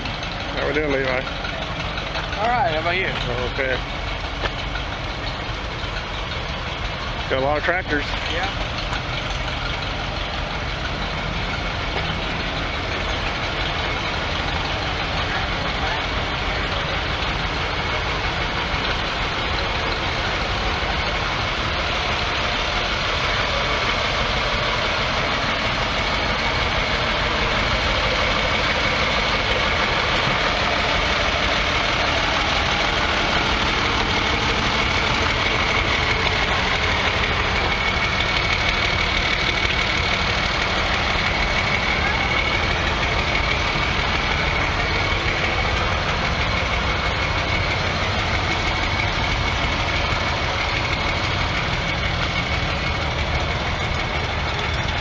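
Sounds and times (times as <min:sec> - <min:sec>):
tractor engines idling: 0:00.0 - 0:55.0.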